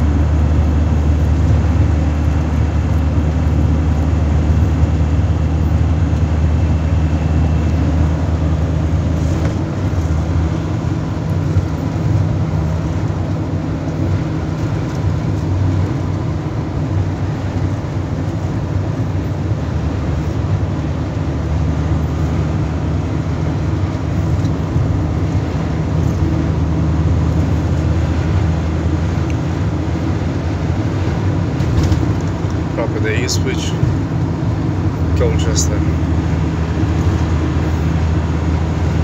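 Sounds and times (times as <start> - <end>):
vehicle cabin road noise: 0.0 - 39.0.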